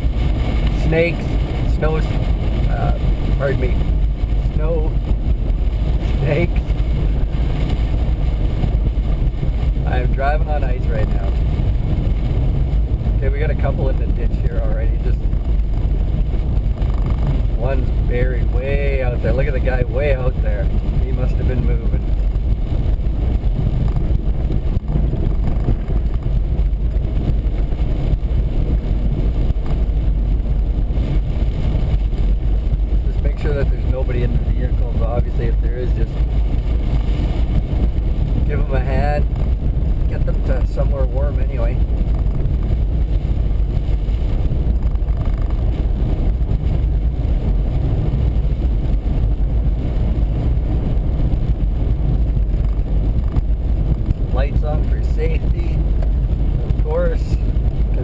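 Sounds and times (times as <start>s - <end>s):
car engine and tyre noise: 0.0s - 58.0s
wind against car body: 0.0s - 58.0s.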